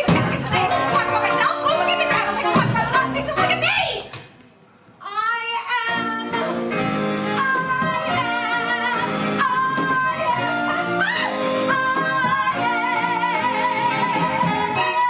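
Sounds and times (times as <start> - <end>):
woman singing wordlessly: 0.0 - 4.1, 5.0 - 15.0
musical theatre accompaniment: 0.0 - 4.3, 5.9 - 15.0.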